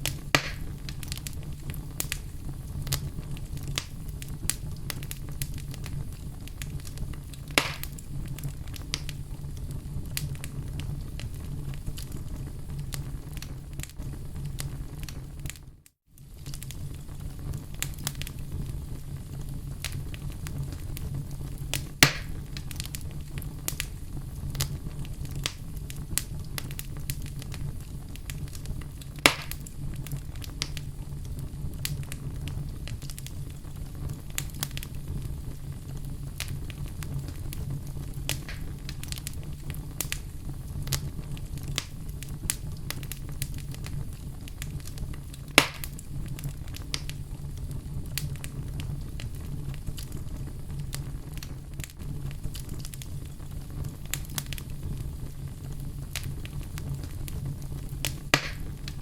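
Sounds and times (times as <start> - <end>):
fire flames rumbling: 0.0 - 59.0
loud sharp pops from fire: 0.0 - 59.0
small fire crackles: 0.0 - 59.0.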